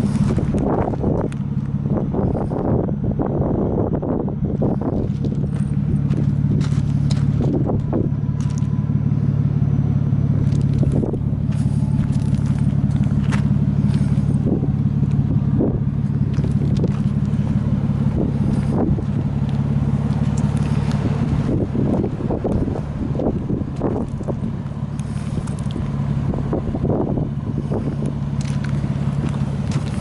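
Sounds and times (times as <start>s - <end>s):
crunches on gravel: 0.0s - 2.6s, 4.6s - 8.9s, 10.4s - 30.0s
car engine idling: 0.0s - 30.0s.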